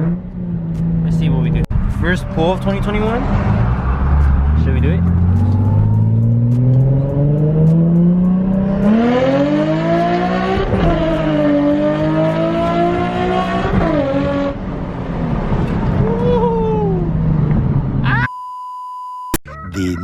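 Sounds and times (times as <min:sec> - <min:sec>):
car engine revving under full throttle: 0:00.0 - 0:16.0.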